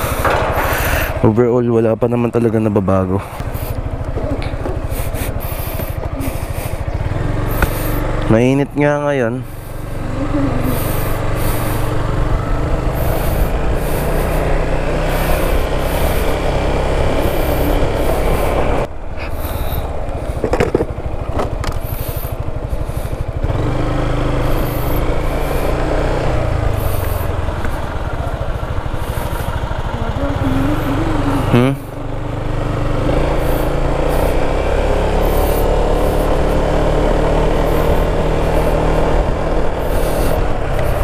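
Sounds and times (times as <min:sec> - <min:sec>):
scooter engine rumbling: 0:00.0 - 0:41.0.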